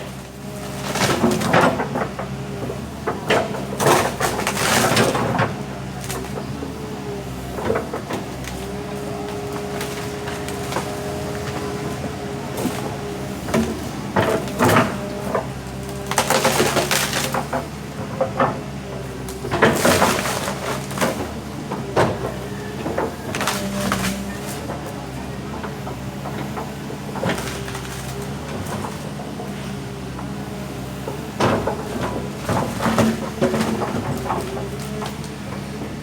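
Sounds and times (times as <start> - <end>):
backhoe diesel engine running: 0.0 - 36.0
tree wood cracking and splintering: 0.1 - 35.4.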